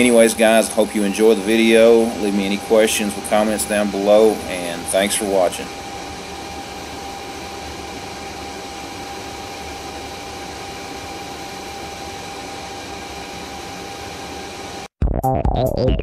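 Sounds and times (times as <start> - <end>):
fan rushing hum: 0.0 - 14.9.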